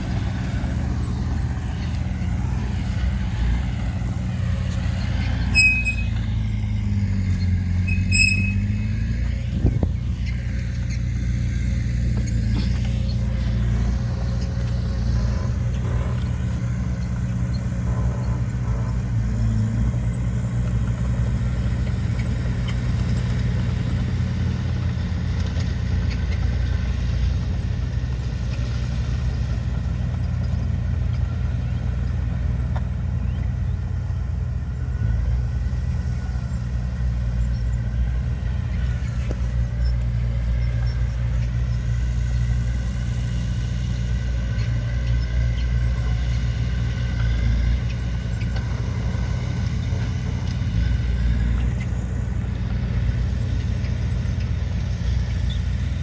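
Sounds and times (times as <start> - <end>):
heavy diesel machinery engine drone: 0.0 - 56.0.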